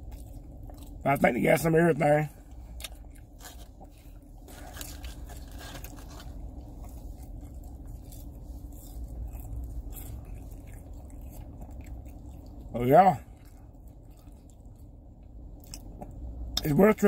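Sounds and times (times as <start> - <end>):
person chewing food: 0.0 - 1.2, 2.4 - 16.6
low hum: 0.0 - 17.0.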